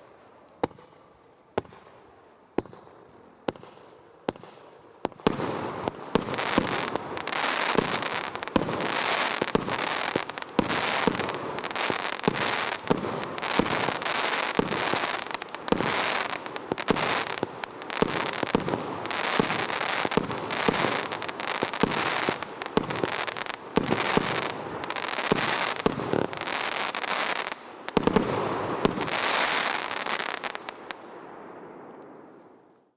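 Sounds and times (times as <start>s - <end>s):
firework barrage: 2.6s - 32.6s.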